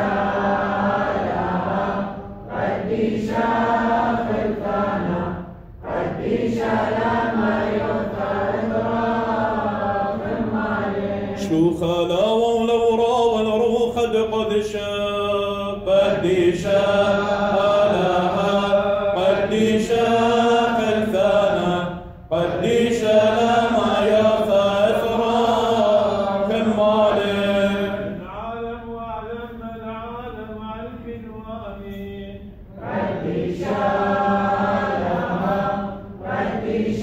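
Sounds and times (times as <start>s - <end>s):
men chanting liturgy: 0.0s - 37.0s.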